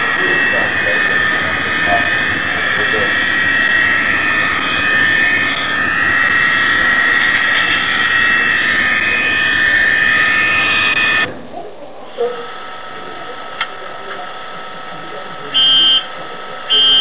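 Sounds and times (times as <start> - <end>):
model diesel engine sound: 0.0 - 17.0.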